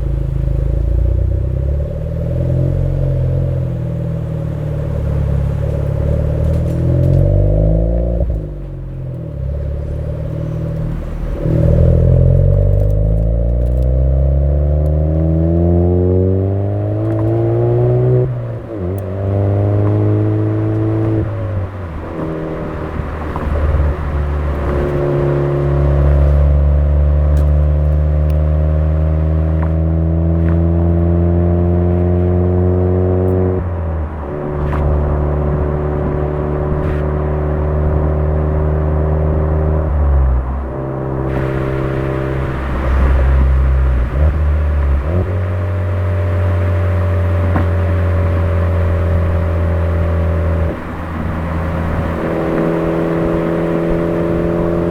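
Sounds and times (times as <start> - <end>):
car engine droning under load: 0.0 - 54.9.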